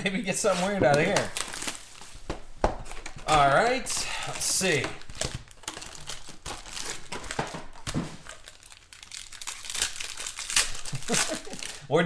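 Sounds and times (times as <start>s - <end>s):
foil wrapper crinkling: 0.4s - 2.2s, 2.9s - 11.9s.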